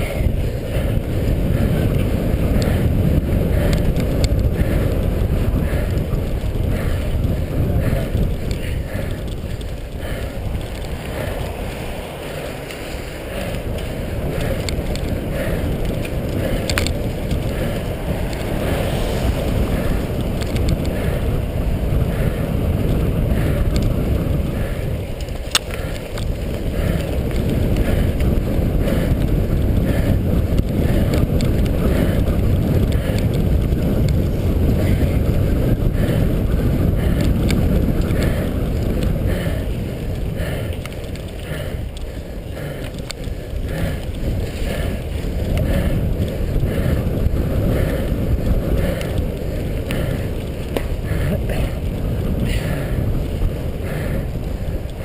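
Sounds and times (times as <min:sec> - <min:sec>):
bike rattles and ticks: 0:00.0 - 0:55.0
wind buffeting microphone: 0:00.0 - 0:55.0.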